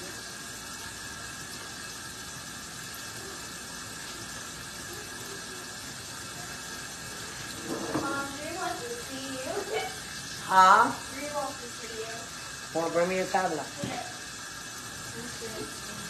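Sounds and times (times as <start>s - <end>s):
faucet running into sink: 0.0s - 16.0s.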